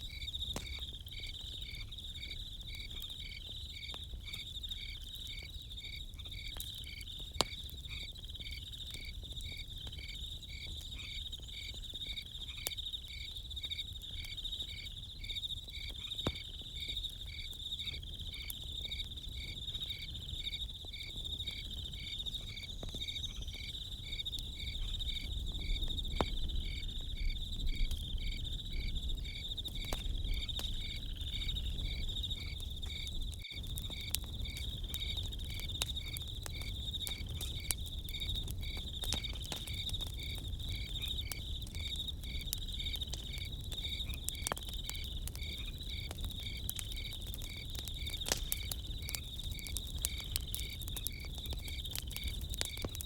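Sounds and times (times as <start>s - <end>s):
campfire crackling: 0.0s - 53.0s
crickets chirping: 0.0s - 53.0s.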